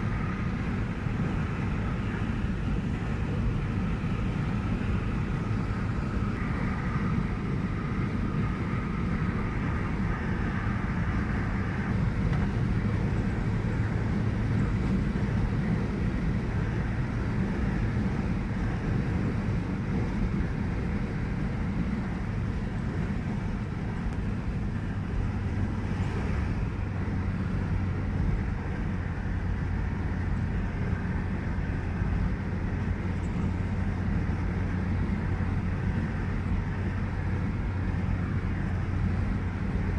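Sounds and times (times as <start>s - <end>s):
car road noise: 0.0s - 39.9s.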